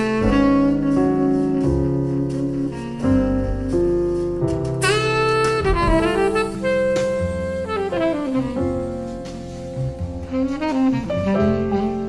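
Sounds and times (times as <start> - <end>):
jazz saxophone piano and bass: 0.0 - 12.0.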